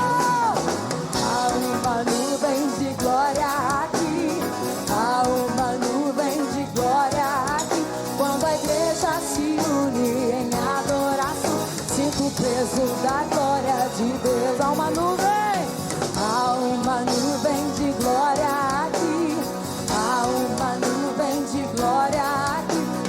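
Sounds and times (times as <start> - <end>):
band with drums and guitar: 0.0 - 23.0
woman singing: 0.0 - 23.0.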